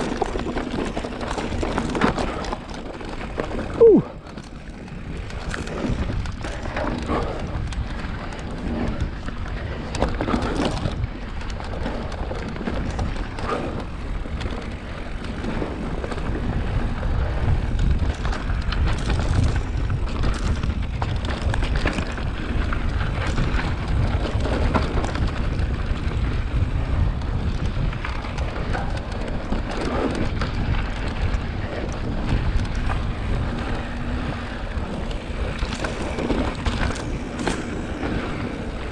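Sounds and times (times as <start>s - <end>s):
bike clattering over bumps: 0.0s - 38.9s
tyres rolling on dirt: 0.0s - 38.9s
wind buffeting microphone: 0.0s - 38.9s.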